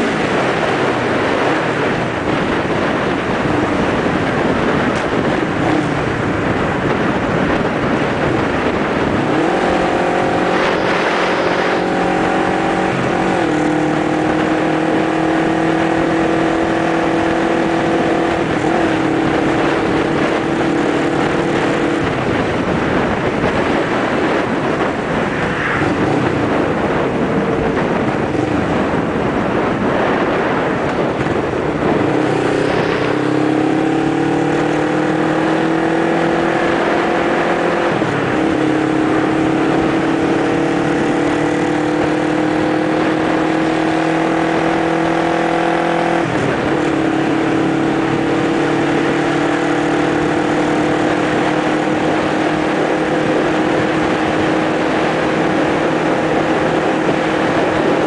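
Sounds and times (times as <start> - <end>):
motorcycle engine drone: 0.0 - 58.0
wind rushing on microphone: 0.0 - 58.0.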